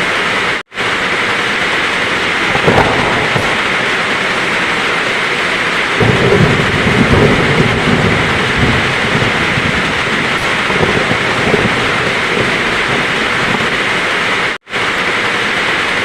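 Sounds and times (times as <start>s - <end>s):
heavy rain falling: 0.0s - 16.0s
thunder rolling: 0.6s - 14.6s.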